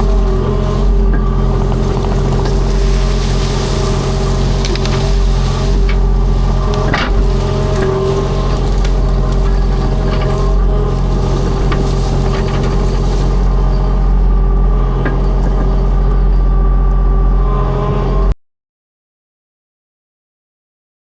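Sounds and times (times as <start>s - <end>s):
clanks and rattles: 0.0s - 17.0s
skid steer engine running: 0.0s - 18.4s.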